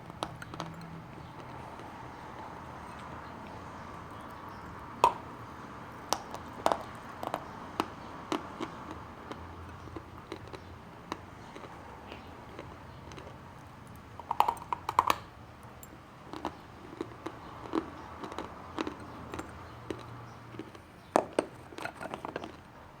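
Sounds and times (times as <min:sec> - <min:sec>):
chalk being chewed crunching: 0:00.0 - 0:22.7.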